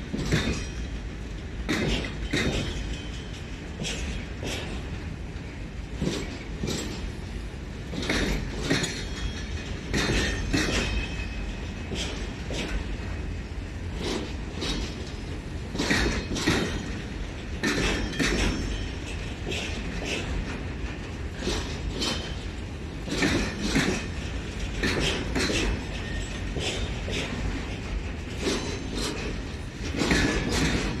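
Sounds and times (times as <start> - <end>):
train wheels clacking over rail joints: 0.0 - 31.0.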